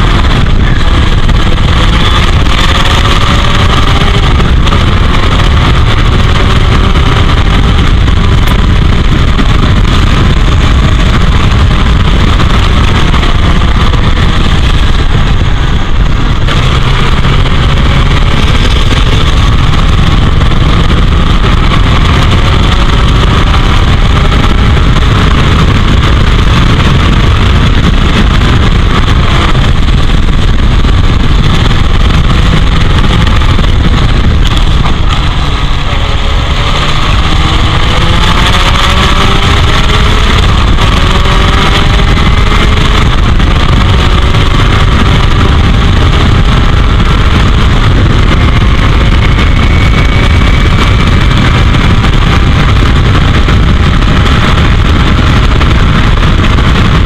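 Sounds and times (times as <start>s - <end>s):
race car engine revving: 0.0s - 57.0s
wind buffeting camera: 0.0s - 57.0s.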